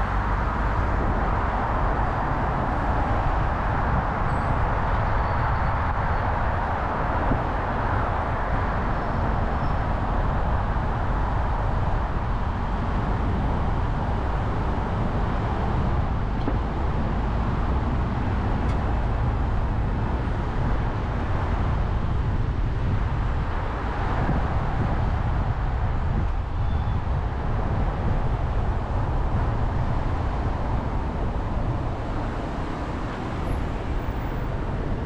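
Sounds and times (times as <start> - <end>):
car road and tyre noise: 0.0 - 35.0.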